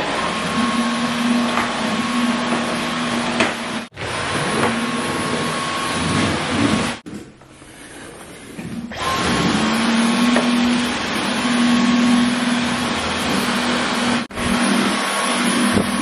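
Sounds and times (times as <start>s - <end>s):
vacuum cleaner running: 0.0s - 7.0s, 7.7s - 16.0s.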